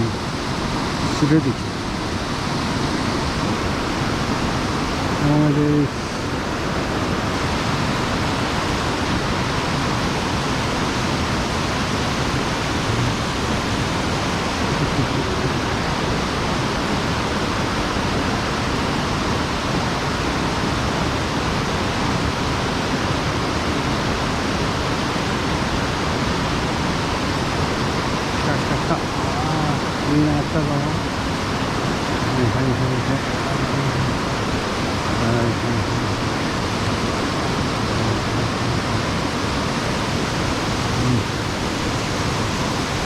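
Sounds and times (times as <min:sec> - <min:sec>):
stream water pouring over dam: 0:00.0 - 0:43.0.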